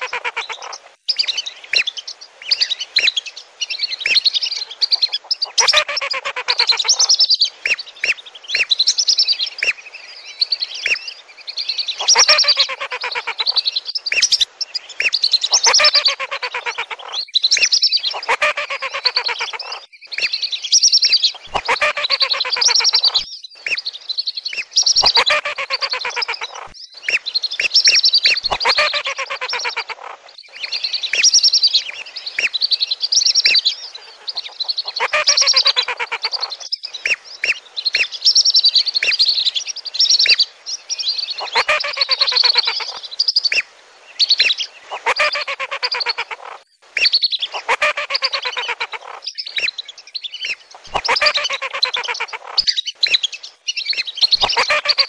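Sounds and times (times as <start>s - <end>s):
whistling ducks calling: 0.0s - 11.1s, 11.9s - 23.9s, 24.5s - 40.5s, 41.2s - 55.0s.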